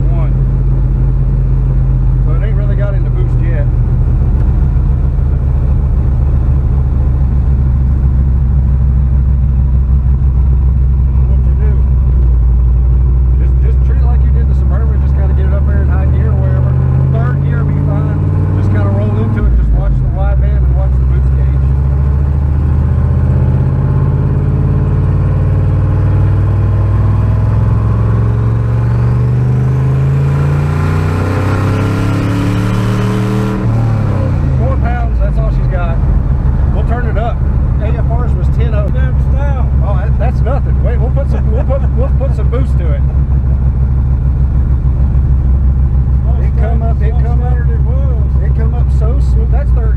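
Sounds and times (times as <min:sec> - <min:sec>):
truck engine rumbling: 0:00.0 - 0:49.9.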